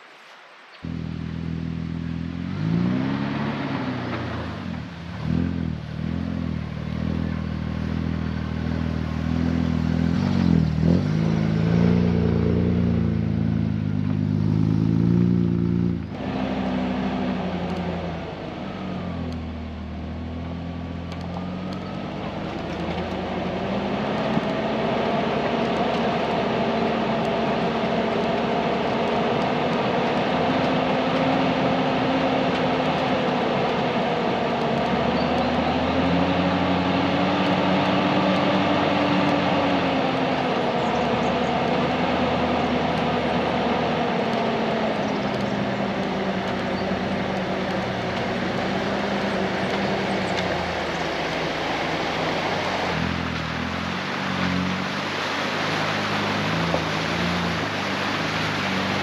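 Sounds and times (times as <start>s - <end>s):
car engine driving: 0.6s - 59.0s.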